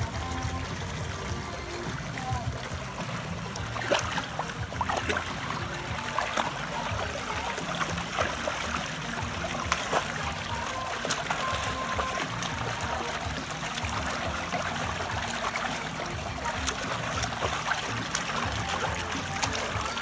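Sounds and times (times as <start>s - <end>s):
dog splashing in water: 0.0s - 20.0s
trickle of running water: 0.0s - 20.0s.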